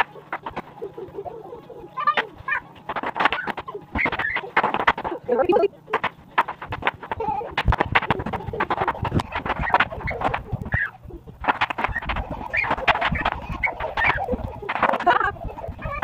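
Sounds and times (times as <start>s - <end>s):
bare feet slapping wooden floor: 2.1s - 15.2s.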